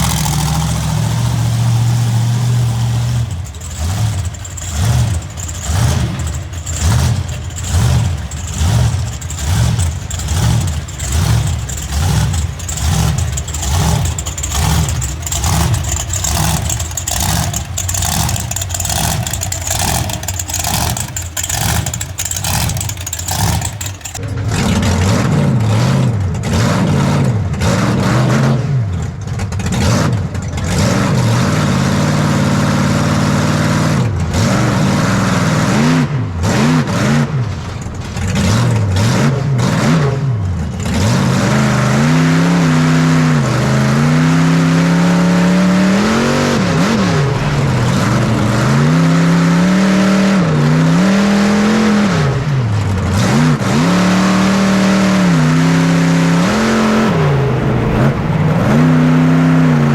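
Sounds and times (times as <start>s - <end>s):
monster truck engine revving: 0.0s - 59.9s.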